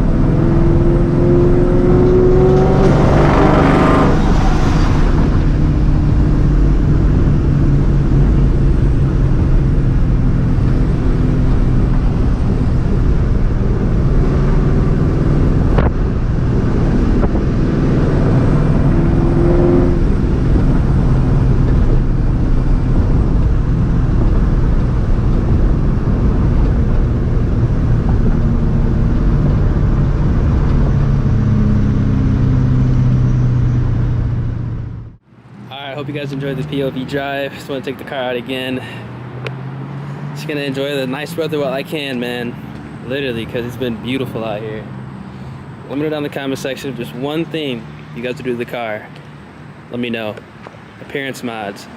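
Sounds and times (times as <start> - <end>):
car engine exhaust drone: 0.0 - 51.6.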